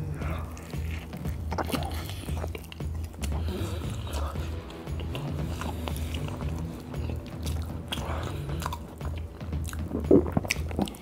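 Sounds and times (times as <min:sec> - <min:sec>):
chewing soft food: 0:00.0 - 0:11.0
wet mouth clicks: 0:00.4 - 0:11.0.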